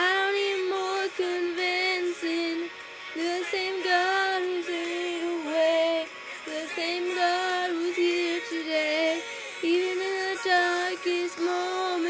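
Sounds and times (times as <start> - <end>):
woman singing worship song: 0.0 - 12.0.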